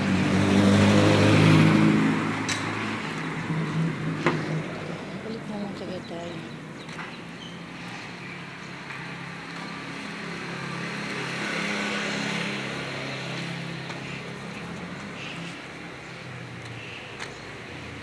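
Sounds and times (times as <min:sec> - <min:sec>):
vehicle engine passing by: 0:00.0 - 0:06.8, 0:07.6 - 0:18.0.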